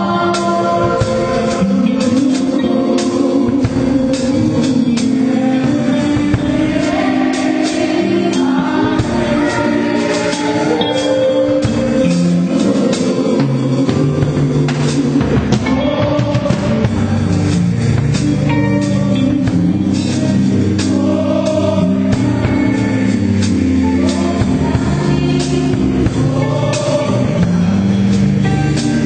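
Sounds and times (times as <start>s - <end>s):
drum kit with cymbals: 0.0s - 29.0s
people singing: 0.0s - 29.0s
sustained chords: 0.0s - 29.0s.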